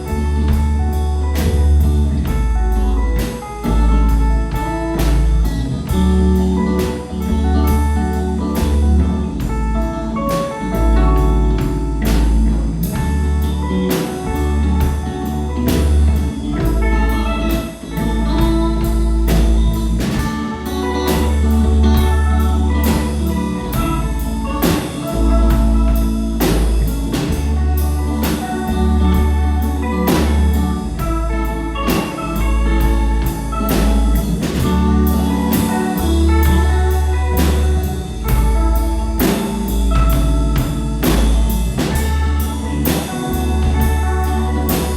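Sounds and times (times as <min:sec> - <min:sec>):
band playing instrumental: 0:00.0 - 0:44.9
drum kit beat: 0:00.0 - 0:44.9
heavy bass line: 0:00.0 - 0:44.9.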